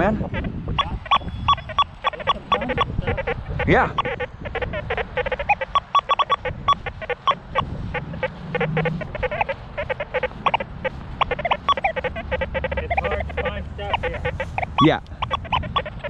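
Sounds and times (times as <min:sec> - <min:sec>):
metal detector rapid beeps: 0:00.4 - 0:16.0.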